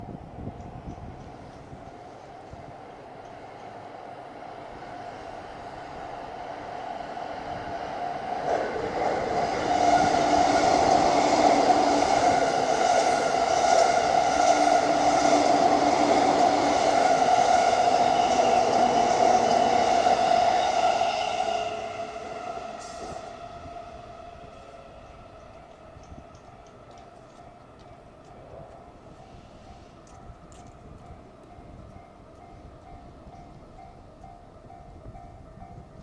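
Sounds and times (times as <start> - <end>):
electric train passing: 0.0 - 36.0.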